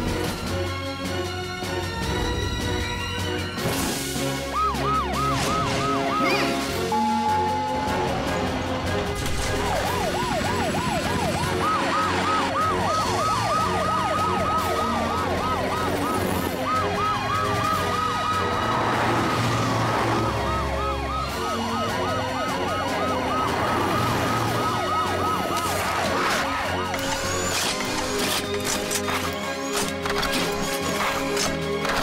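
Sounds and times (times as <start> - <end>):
background music: 0.0 - 32.0
cartoon sirens wailing: 4.3 - 8.5, 9.5 - 31.2.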